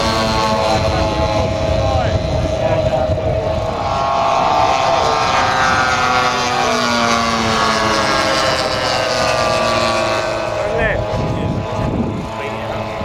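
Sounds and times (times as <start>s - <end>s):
model plane propeller engines droning: 0.0s - 13.0s.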